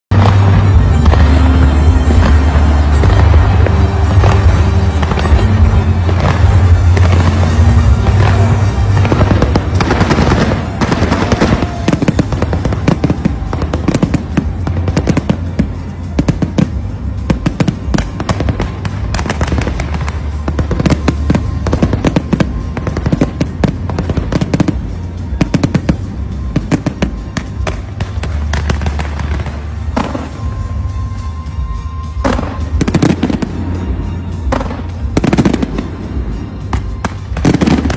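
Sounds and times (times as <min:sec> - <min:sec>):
fireworks bursting and crackling: 0:00.1 - 0:37.9
music with heavy bass: 0:00.1 - 0:37.9.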